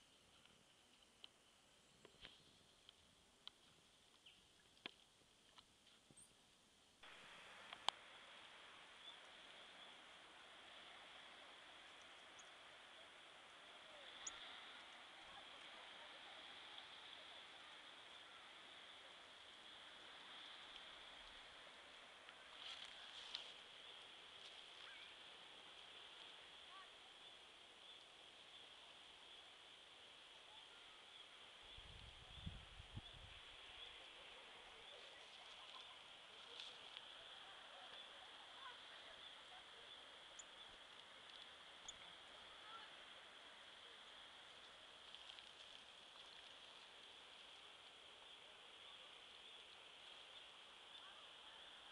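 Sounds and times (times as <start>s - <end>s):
steady high hiss: 0.0s - 51.9s
faint chirps: 7.0s - 51.9s.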